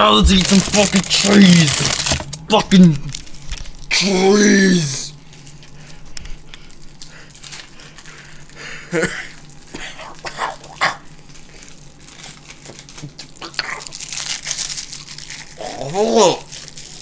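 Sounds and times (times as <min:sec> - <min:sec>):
packaging crinkling and rustling: 0:00.0 - 0:04.0, 0:05.1 - 0:17.0.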